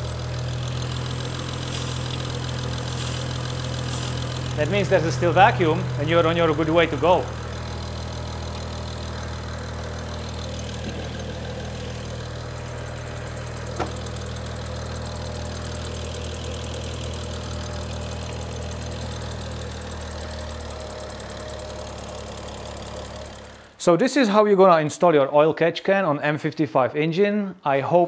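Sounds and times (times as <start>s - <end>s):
car engine idling: 0.0s - 23.8s.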